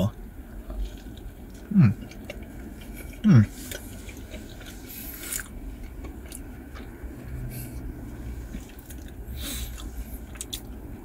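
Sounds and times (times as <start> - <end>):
chewing with wet mouth clicks: 0.7 - 7.3, 8.5 - 10.8.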